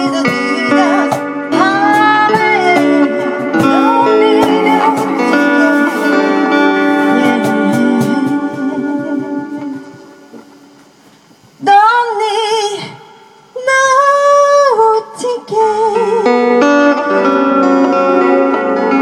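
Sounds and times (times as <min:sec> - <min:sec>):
person singing with vibrato: 0:00.0 - 0:10.6, 0:11.5 - 0:19.0
acoustic guitar playing: 0:00.0 - 0:11.6, 0:13.4 - 0:19.0.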